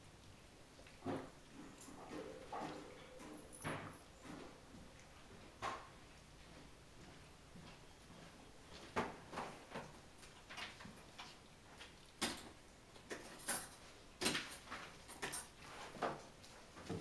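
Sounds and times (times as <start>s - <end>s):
puppies' claws clicking and scuffing: 0.0s - 17.0s.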